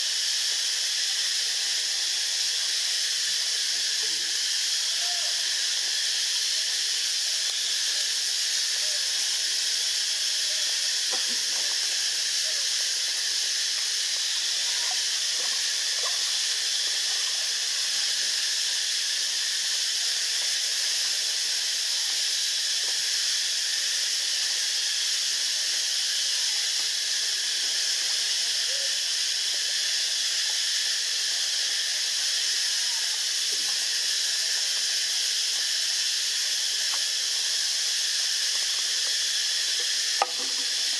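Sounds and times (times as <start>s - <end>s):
steady high-pitched hiss: 0.0s - 40.9s.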